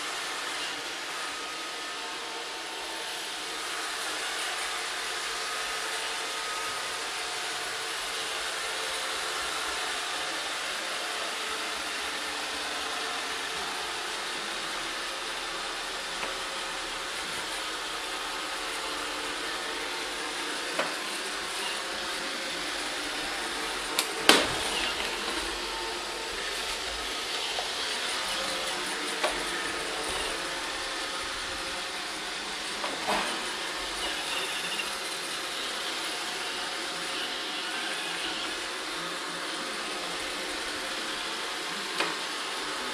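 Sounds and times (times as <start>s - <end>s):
robot vacuum running: 0.0s - 42.9s.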